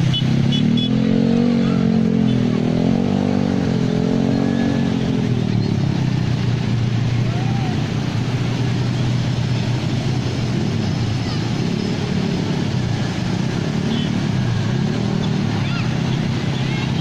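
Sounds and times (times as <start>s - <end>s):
motorcycle and car engines: 0.0s - 17.0s
road noise: 0.0s - 17.0s.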